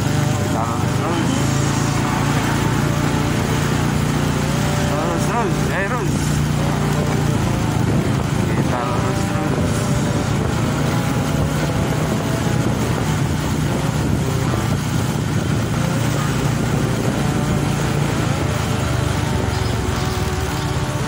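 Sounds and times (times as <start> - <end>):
vehicle engine running: 0.0 - 21.0
wind and road noise: 0.0 - 21.0.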